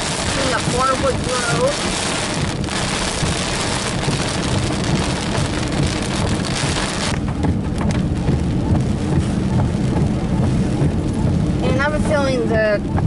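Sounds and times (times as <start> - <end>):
car rumbling on road: 0.0 - 13.0
heavy rain on car windshield: 0.0 - 13.0.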